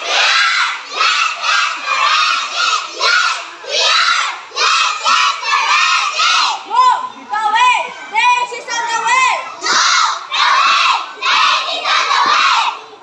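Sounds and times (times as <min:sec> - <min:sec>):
children shouting a chant: 0:00.0 - 0:07.3, 0:08.4 - 0:13.0.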